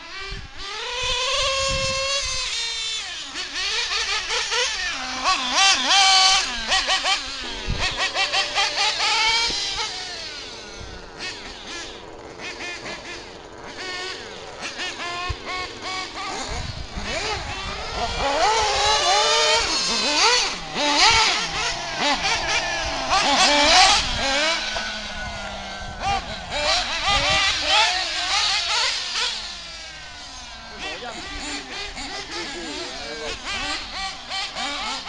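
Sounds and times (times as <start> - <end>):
rc car engines screaming: 0.0 - 35.0.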